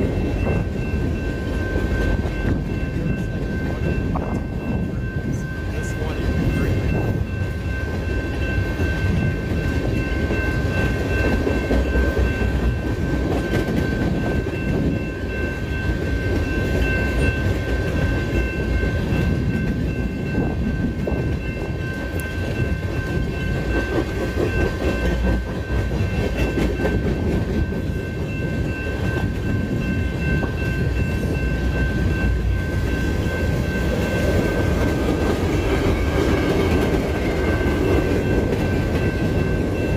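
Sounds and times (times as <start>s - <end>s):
freight train wheels rumbling on rails: 0.0s - 39.9s
steady high-pitched tone: 0.0s - 39.9s.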